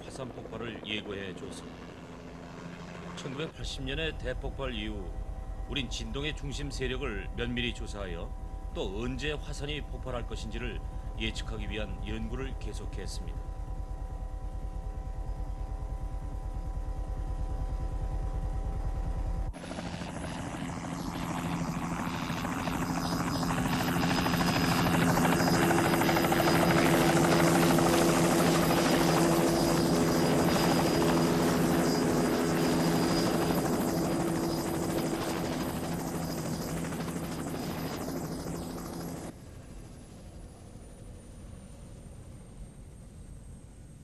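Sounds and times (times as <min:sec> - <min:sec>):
helicopter rotor and turbine whine: 0:00.0 - 0:44.0
low pulsing aircraft drone: 0:00.0 - 0:44.0.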